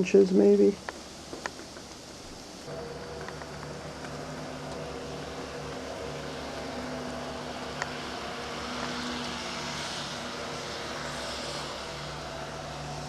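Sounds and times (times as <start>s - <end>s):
low mechanical hum: 0.0s - 13.0s
blizzard wind hissing: 0.4s - 13.0s.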